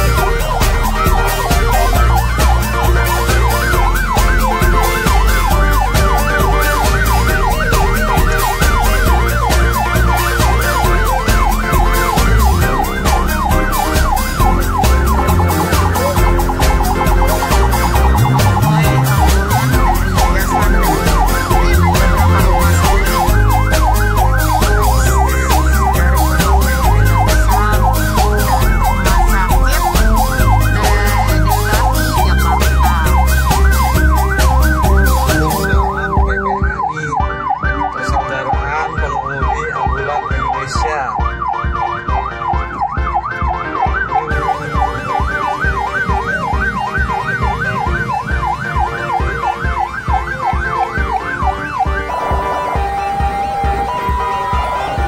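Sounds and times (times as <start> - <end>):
ambulance sirens yelping: 0.0 - 55.0
music with heavy bass beat: 0.0 - 55.0.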